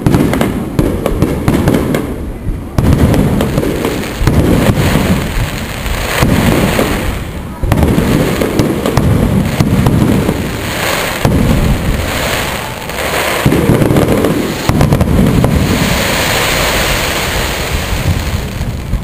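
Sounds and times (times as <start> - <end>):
firework booms: 0.0 - 19.0
firework cracks: 0.0 - 19.0
firework crackling hiss: 2.8 - 19.0.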